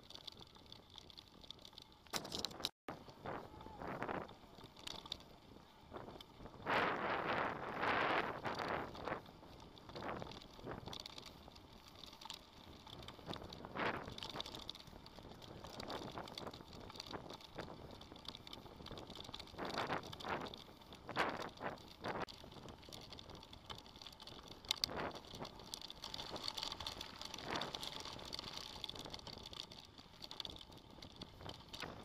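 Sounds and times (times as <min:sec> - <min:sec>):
bike rattling over bumps: 0:00.0 - 0:32.0
mountain bike rolling: 0:00.0 - 0:32.0.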